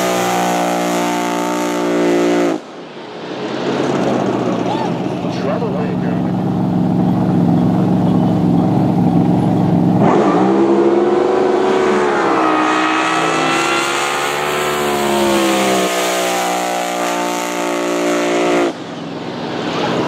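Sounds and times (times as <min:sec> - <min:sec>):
jet boat engine howling: 0:00.0 - 0:20.0.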